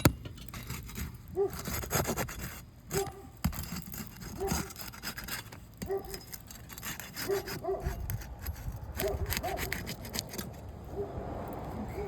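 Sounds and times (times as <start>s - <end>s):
metal bar scraping roof shingles: 0.0s - 10.6s.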